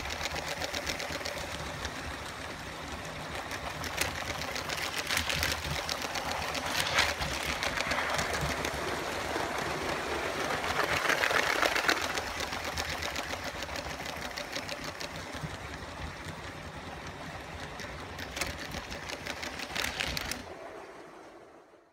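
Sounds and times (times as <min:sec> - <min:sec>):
toy train motor whirring: 0:00.0 - 0:16.4, 0:17.0 - 0:20.4
wheels clicking over rail joints: 0:00.0 - 0:20.6.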